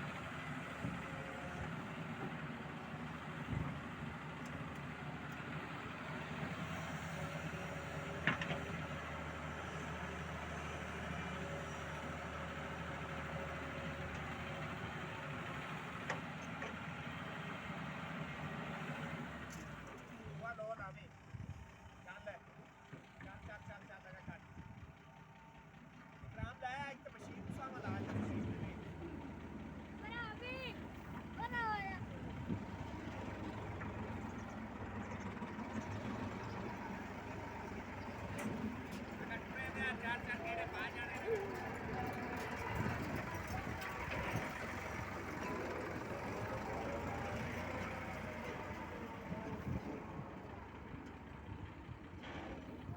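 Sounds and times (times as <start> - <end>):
heavy engine running at low revs: 0.0 - 52.9.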